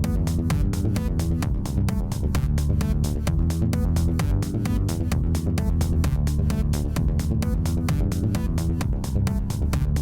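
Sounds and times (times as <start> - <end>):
bass and synth notes: 0.0 - 10.0
fast percussive beat: 0.0 - 10.0.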